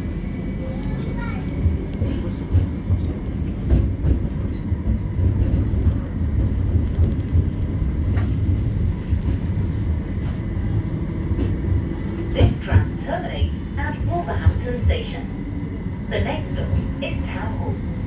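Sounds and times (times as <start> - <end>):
tram wheels rumbling on rail: 0.0 - 18.0.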